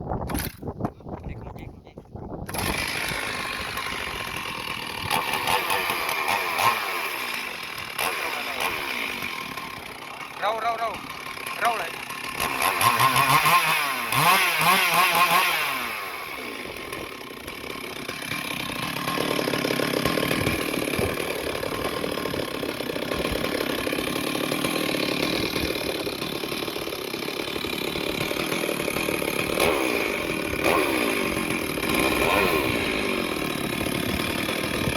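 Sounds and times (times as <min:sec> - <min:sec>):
chainsaw revving: 0:02.5 - 0:34.9.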